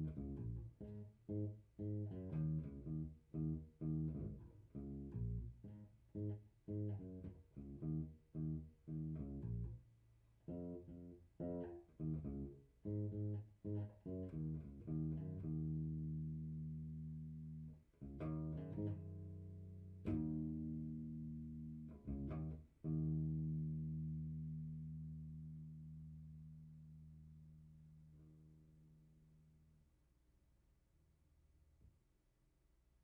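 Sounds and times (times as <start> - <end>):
electric bass guitar notes: 0.0 - 9.8, 10.4 - 29.5.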